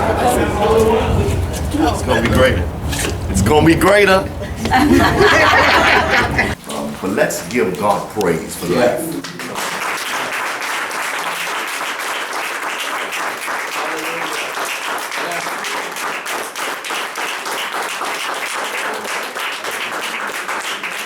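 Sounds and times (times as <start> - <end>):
congregation applauding: 0.0 - 21.0.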